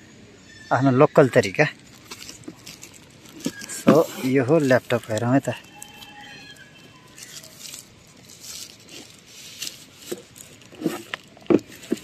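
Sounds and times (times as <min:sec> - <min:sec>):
protective sleeve rustling: 0:01.8 - 0:12.0.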